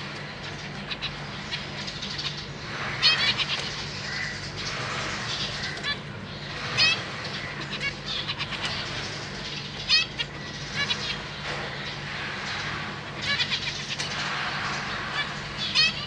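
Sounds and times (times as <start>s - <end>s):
finches honking calls: 0.0s - 16.0s
steady low hum: 0.0s - 16.0s.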